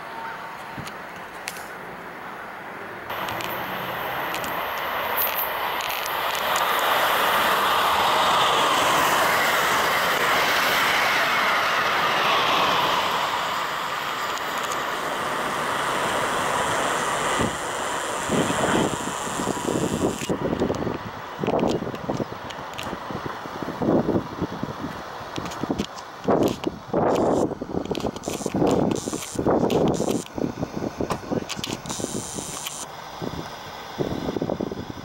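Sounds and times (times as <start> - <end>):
high-speed train passing: 0.0 - 35.0.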